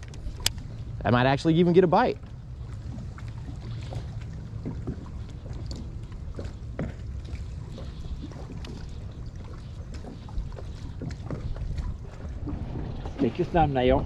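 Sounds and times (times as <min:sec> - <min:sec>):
water lapping against boat hull: 0:00.0 - 0:14.0
wind buffeting microphone: 0:00.0 - 0:14.0.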